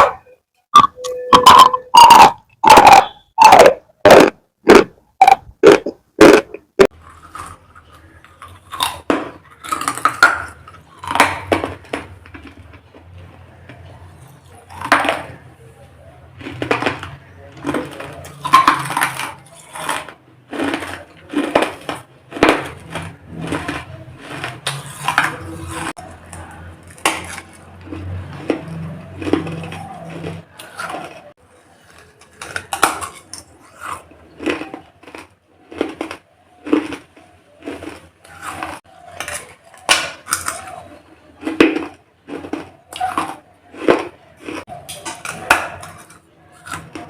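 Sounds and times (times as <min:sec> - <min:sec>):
hard clay crunching: 0:00.0 - 0:47.0.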